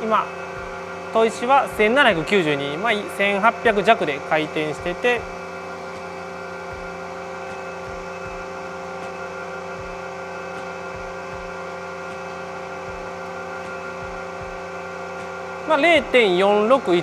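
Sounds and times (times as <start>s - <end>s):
grinding wheel humming: 0.0s - 17.0s.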